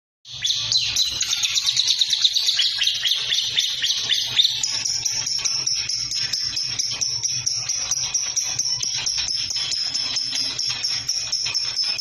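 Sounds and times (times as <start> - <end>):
songbird chirping and trilling: 0.3 - 12.0.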